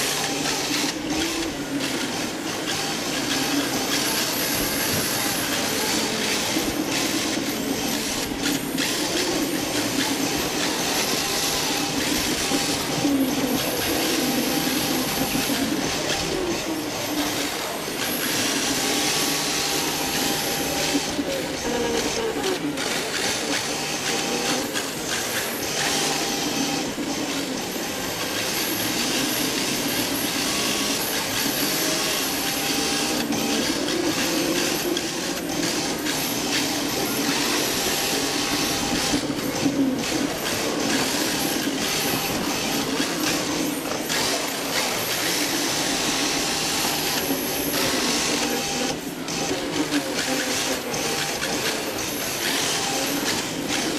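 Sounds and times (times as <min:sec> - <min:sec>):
rc car motor and gears whirring: 0:00.0 - 0:53.9.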